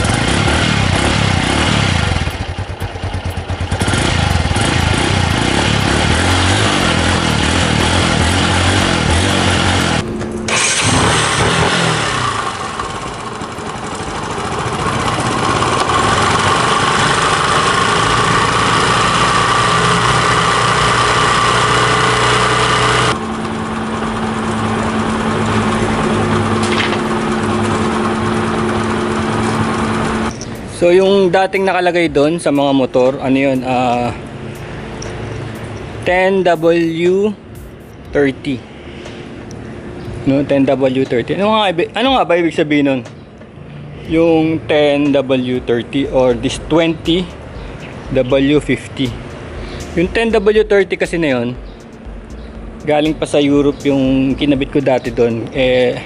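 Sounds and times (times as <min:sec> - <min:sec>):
motorcycle engine running: 0:00.0 - 0:42.5, 0:43.1 - 0:56.0.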